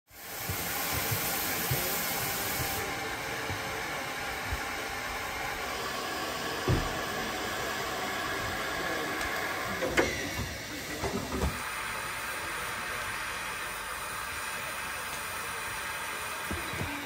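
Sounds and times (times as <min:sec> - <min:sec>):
steam locomotive hissing steam: 0:00.1 - 0:17.0.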